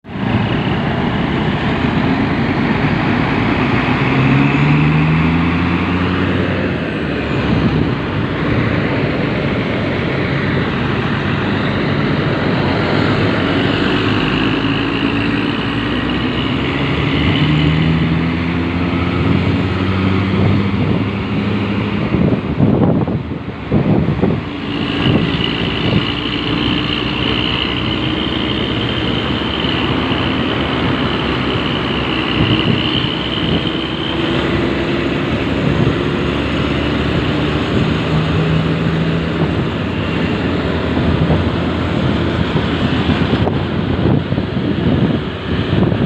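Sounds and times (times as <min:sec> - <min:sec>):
bus diesel engine accelerating: 0:00.0 - 0:46.0.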